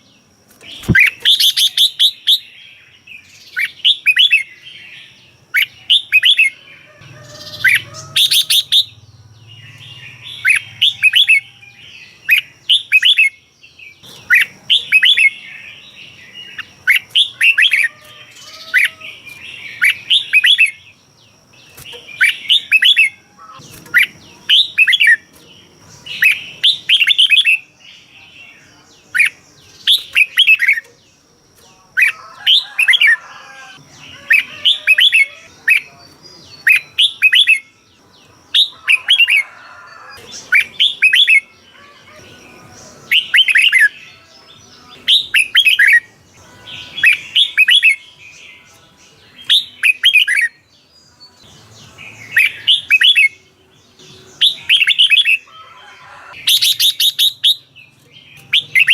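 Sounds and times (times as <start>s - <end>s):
bird singing warbled phrases: 0.0s - 58.9s.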